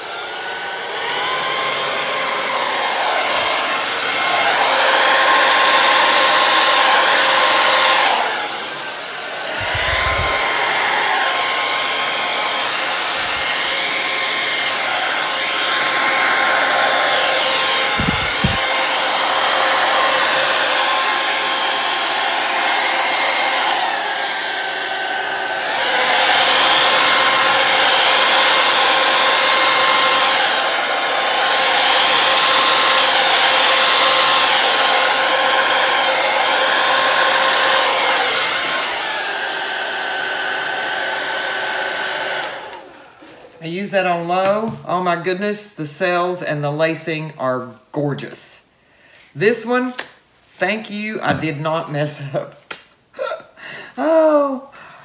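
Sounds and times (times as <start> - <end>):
hair dryer blowing: 0.0 - 45.2.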